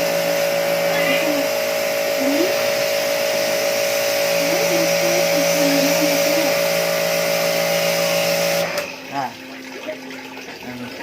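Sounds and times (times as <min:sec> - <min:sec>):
water hissing from spray gun: 0:00.0 - 0:09.0
pressure washer motor humming: 0:00.0 - 0:11.0.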